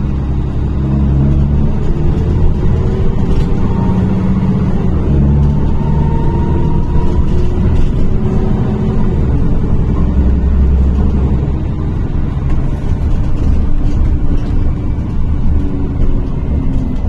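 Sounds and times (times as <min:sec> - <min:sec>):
bus engine drone: 0:00.0 - 0:17.0
road noise: 0:00.0 - 0:17.0.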